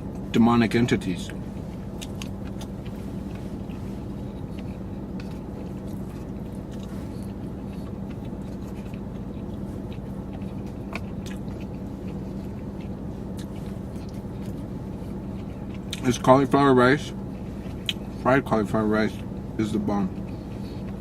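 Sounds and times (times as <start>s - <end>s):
steady low hum: 0.0s - 21.0s
person chewing food: 1.3s - 21.0s.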